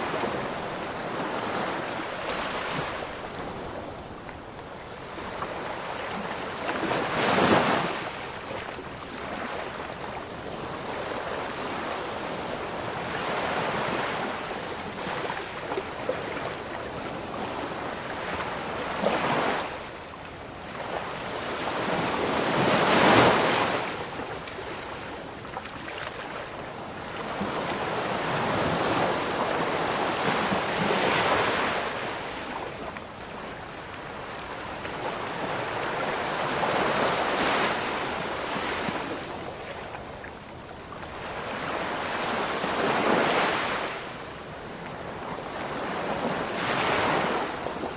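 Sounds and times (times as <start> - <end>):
ocean waves breaking: 0.0 - 47.9.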